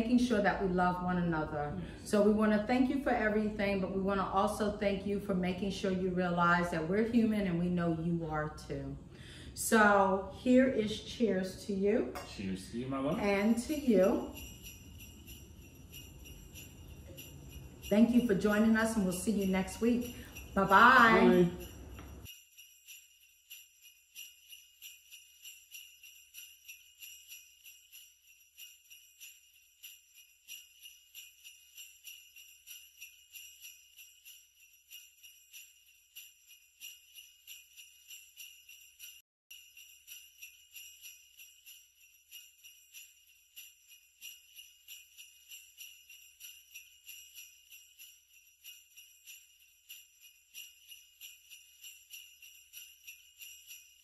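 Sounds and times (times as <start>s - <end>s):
jingle bells shaking: 0.0s - 54.0s.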